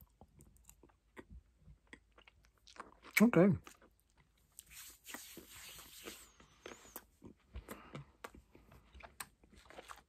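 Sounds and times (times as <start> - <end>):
chewing chocolate bar: 0.0 - 5.4, 6.0 - 10.0.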